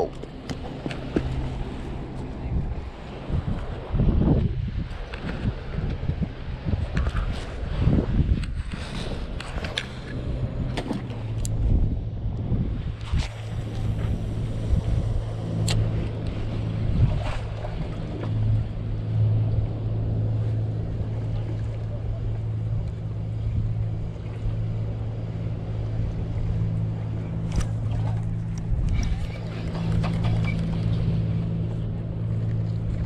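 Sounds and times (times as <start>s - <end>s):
boat engine humming: 0.0s - 33.0s
water noise: 0.0s - 33.0s
wind: 0.0s - 33.0s.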